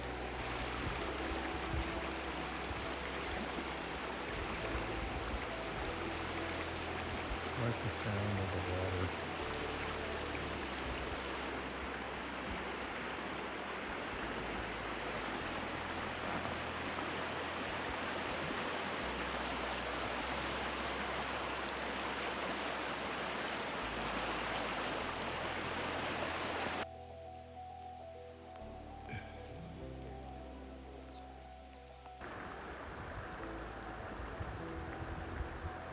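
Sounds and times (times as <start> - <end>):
stream water rushing: 0.0 - 26.9, 32.2 - 35.9.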